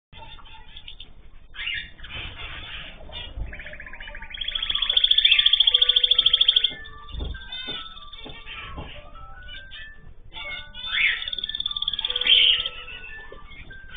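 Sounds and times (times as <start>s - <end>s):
loud fast bird trill: 0.2s - 13.4s
cage birds chirping: 0.2s - 13.9s.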